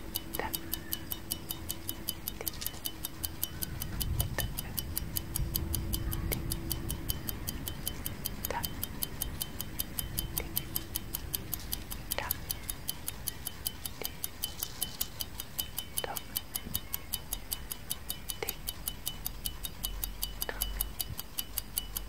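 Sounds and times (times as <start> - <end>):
clock ticking: 0.0 - 22.0
faint low hum: 0.0 - 22.0.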